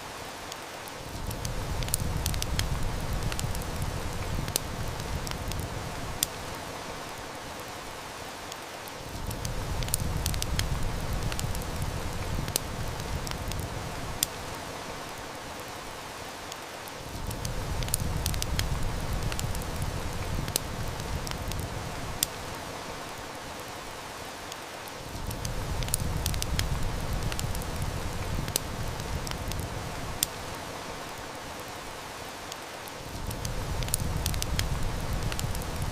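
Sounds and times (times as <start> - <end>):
heavy rain: 0.0 - 35.9
wood fire crackling: 0.0 - 35.9.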